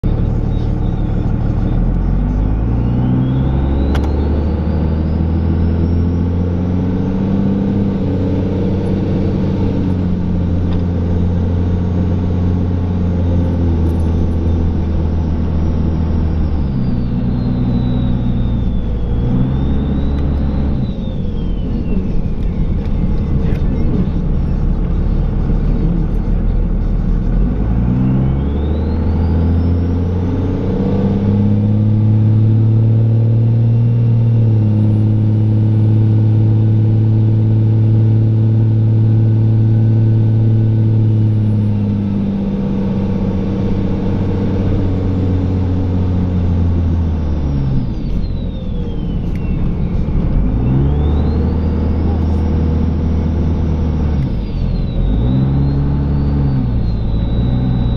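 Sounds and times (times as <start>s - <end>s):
diesel truck engine revving: 0.0s - 57.9s.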